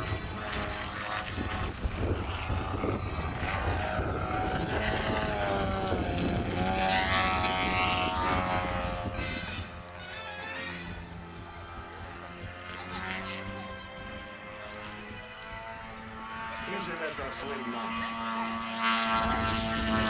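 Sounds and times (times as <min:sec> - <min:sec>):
model airplane engine in flight: 0:00.0 - 0:20.0.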